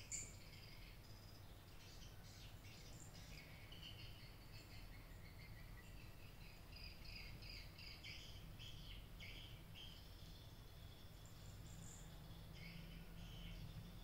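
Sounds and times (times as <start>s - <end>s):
faint high-pitched chirping: 0.0s - 14.0s.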